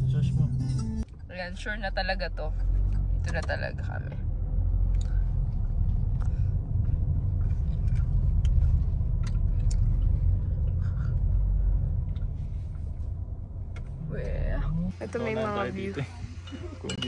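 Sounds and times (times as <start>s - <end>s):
car rumble from inside cabin: 0.0s - 16.8s.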